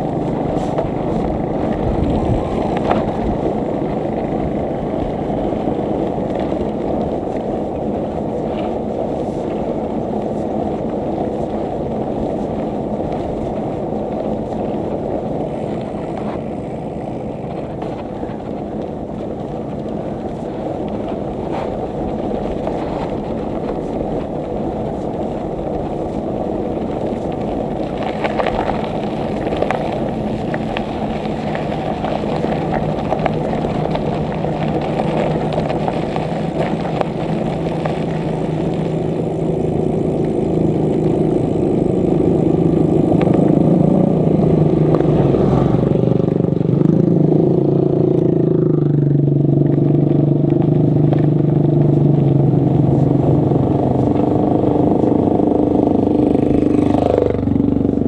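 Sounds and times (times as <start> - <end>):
motor engine running: 0.0 - 58.0
road and wind noise: 0.0 - 58.0.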